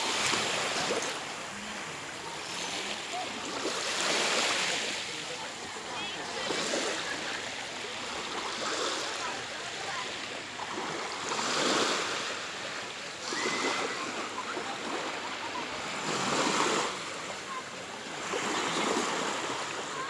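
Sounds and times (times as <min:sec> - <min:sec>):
sea waves washing onto shore: 0:00.0 - 0:20.0.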